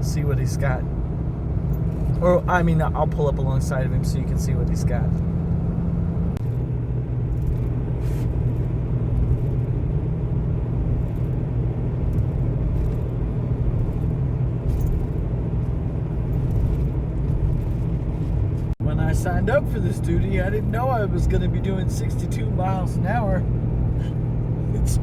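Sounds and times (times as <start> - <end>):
road rumble: 0.0 - 25.0
truck engine drone: 0.0 - 25.0.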